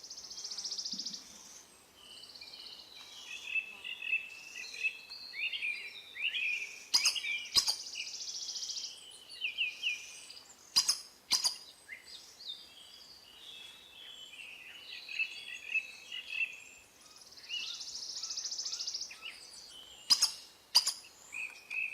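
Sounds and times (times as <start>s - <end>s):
birds chirping and calling: 0.5s - 21.9s.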